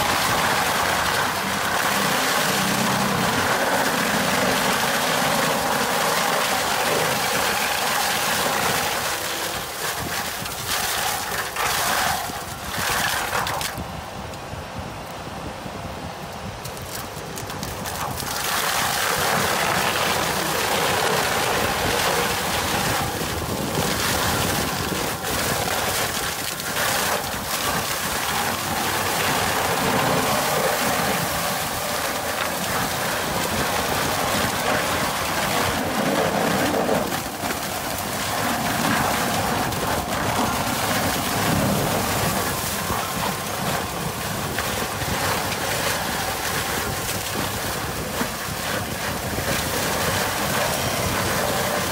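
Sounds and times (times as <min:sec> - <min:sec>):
tractor engine: 0:00.0 - 0:13.6, 0:16.7 - 0:51.9
shredder chewing wood: 0:00.0 - 0:13.8, 0:16.6 - 0:51.9.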